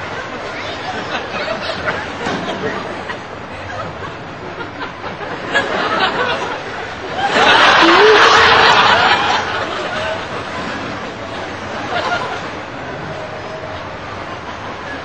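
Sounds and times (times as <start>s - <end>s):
murmur of voices: 0.0s - 15.0s
audience laughter: 0.6s - 13.2s.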